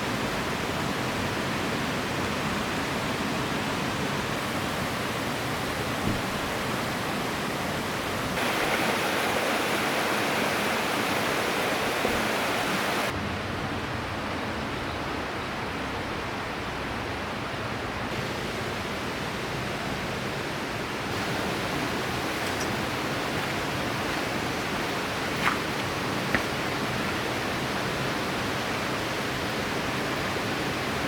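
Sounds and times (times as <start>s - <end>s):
river water rushing over rocks: 0.0s - 13.1s, 18.1s - 31.0s.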